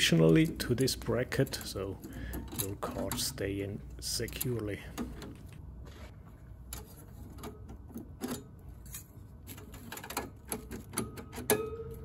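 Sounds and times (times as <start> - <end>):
clicks and metal clatter: 1.3 - 5.6, 6.6 - 12.0.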